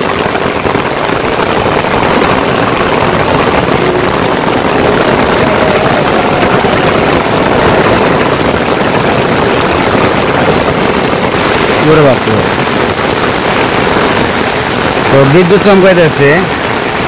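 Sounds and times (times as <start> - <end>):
heavy rain: 0.0 - 17.0
wind gusting over microphone: 0.0 - 17.0.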